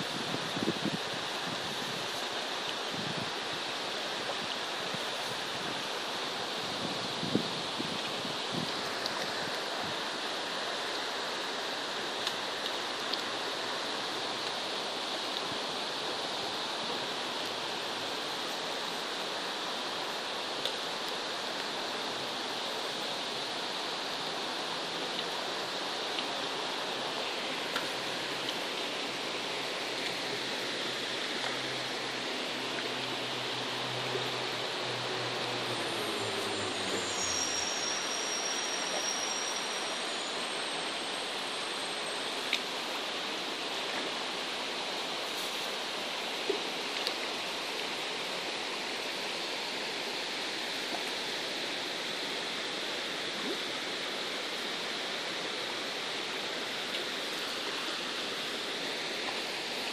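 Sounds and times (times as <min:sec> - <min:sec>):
stream water rushing and burbling: 0:00.0 - 0:59.9.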